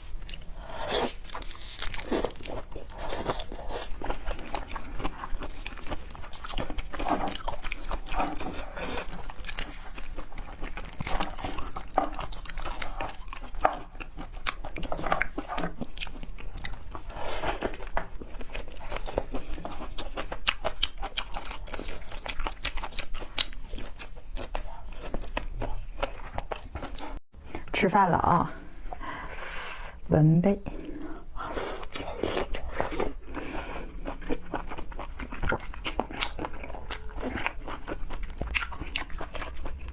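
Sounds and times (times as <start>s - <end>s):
chewing and crunching seafood: 0.0s - 27.8s, 30.6s - 39.9s.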